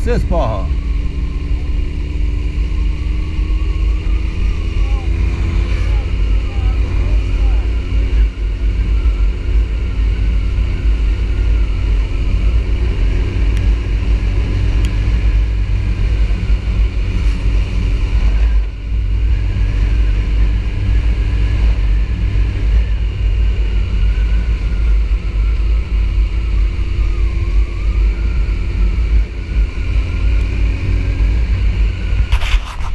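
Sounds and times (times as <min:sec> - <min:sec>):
motorcycle engine: 0:00.0 - 0:32.6
wind rumble on microphone: 0:00.0 - 0:32.9.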